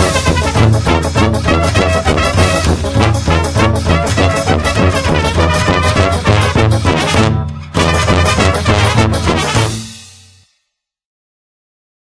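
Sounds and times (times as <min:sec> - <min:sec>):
lively brass music: 0:00.0 - 0:10.3.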